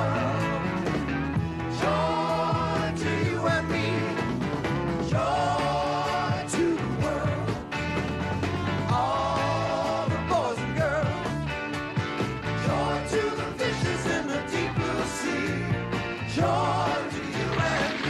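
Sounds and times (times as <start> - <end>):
sustained bass notes: 0.0 - 18.0.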